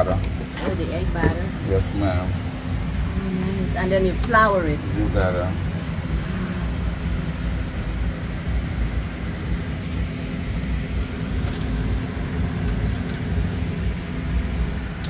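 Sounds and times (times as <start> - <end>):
machinery rumble and hum: 0.0 - 15.0.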